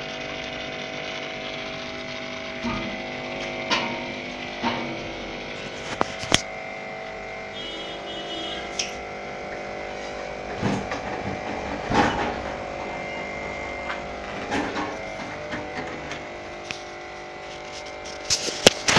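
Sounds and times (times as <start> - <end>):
mechanical hum: 0.0 - 18.9.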